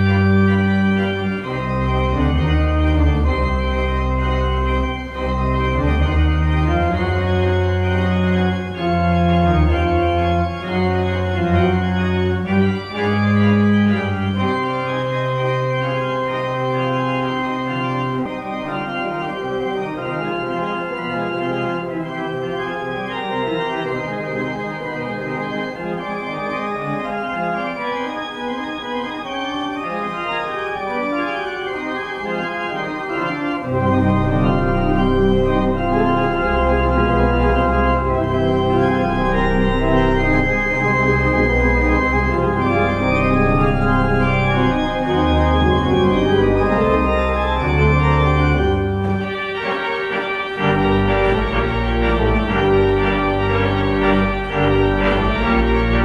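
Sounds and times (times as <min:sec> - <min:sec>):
deep organ bass notes: 0:00.0 - 0:56.0
organ chords: 0:00.0 - 0:56.0.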